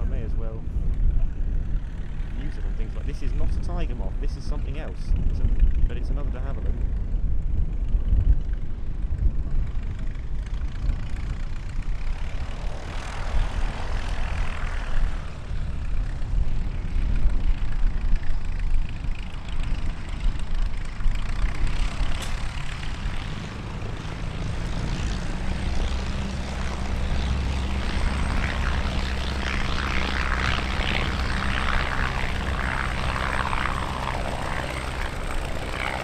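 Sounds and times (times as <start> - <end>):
propeller aircraft engine drone: 0.0 - 36.0
propeller and air rushing: 0.0 - 36.0.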